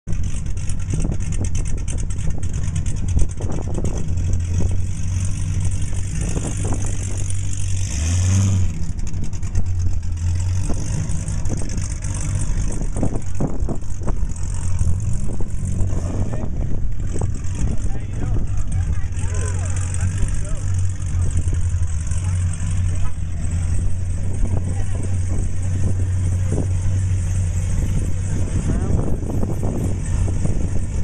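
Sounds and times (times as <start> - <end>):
car engine revving: 0.1 - 31.0
car exhaust deep steady note: 0.1 - 31.0.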